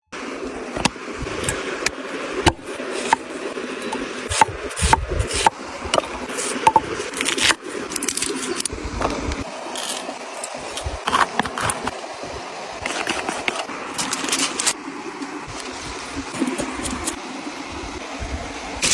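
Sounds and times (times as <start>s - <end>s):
steady noisy background: 0.1s - 18.9s.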